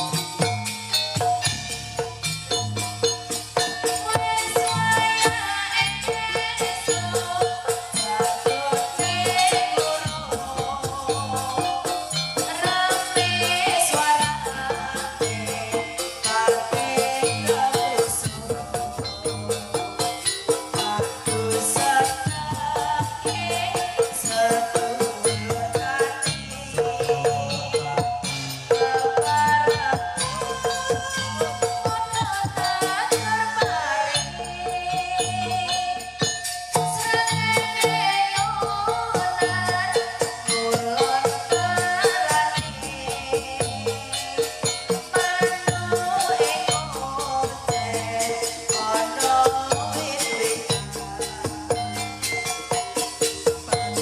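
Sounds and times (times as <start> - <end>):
pitched percussion beat: 0.0 - 54.0
shaken rattle jingle: 0.0 - 54.0.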